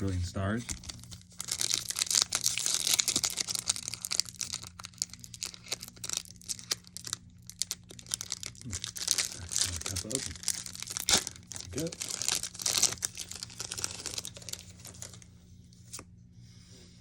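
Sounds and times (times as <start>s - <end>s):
foil wrapper crinkling and tearing: 0.6s - 15.3s.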